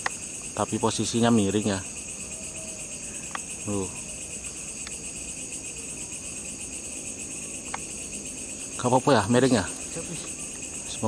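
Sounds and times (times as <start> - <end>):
crickets and insects chirring: 0.0 - 11.0.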